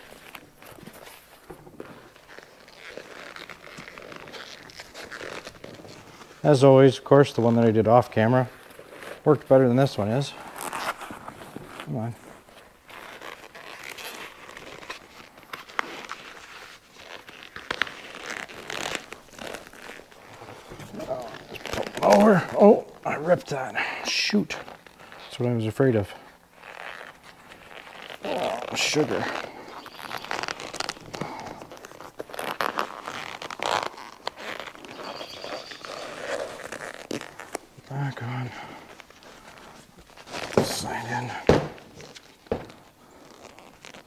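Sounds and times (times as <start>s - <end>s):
seat cover rustling and crinkling: 0.0s - 44.0s.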